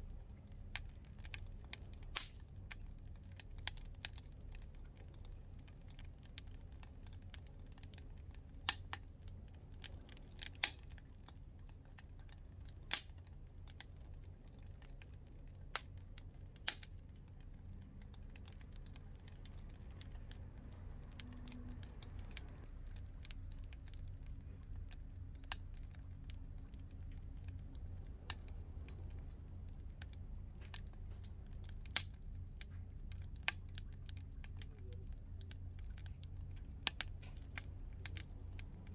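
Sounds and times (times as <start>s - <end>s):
fire popping: 0.0s - 38.9s
low steady rumble: 0.0s - 38.9s
wood fire crackling: 0.0s - 38.9s.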